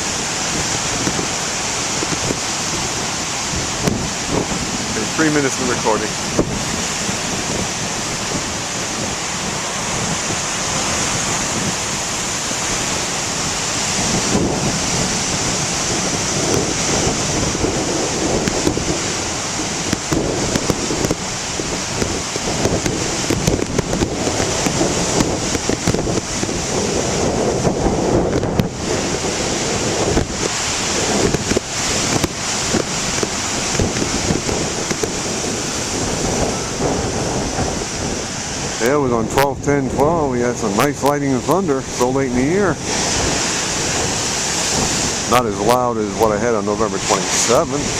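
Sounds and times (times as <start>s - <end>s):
ocean surf breaking: 0.0s - 47.9s
wind buffeting microphone: 0.0s - 47.9s.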